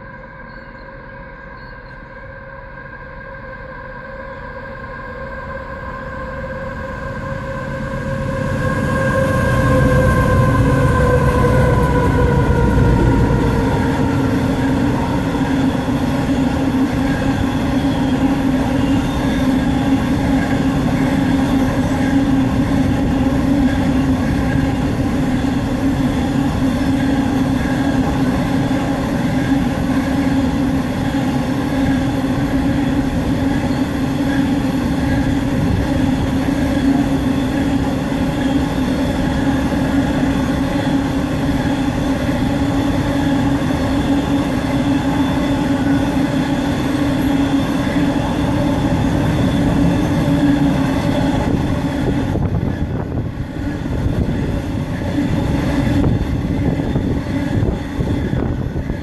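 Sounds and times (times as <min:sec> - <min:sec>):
train wagons rumbling on rails: 0:06.4 - 0:59.0.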